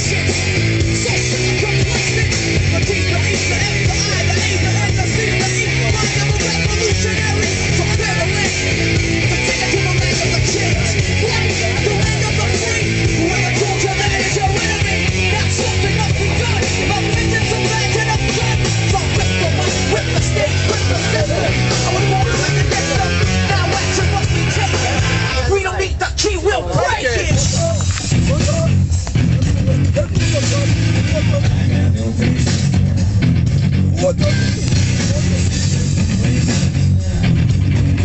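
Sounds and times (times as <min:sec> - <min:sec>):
punk rock music with singing: 0:00.0 - 0:38.0.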